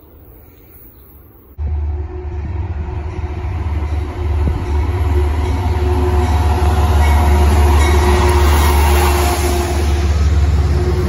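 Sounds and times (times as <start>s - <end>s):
locomotive low rumble: 1.6s - 11.0s.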